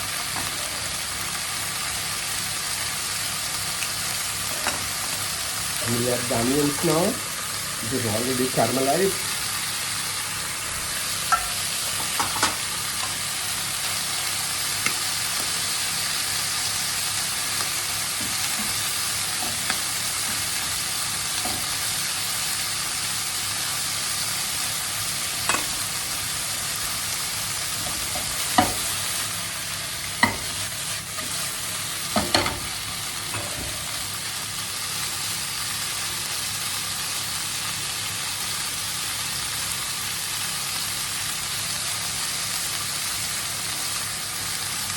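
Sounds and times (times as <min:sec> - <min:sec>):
food sizzling in a frying pan: 0:00.0 - 0:44.9.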